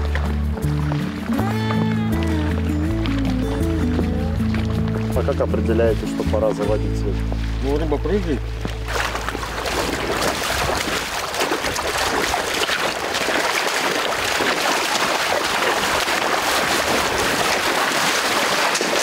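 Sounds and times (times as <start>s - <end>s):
people wading and splashing: 0.0s - 19.0s
rushing water: 0.0s - 19.0s.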